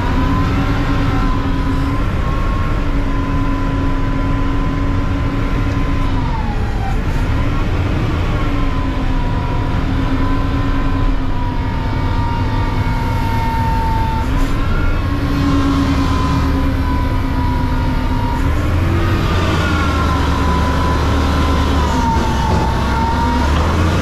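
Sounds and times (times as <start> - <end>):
garbage truck engine rumble: 0.0 - 24.0.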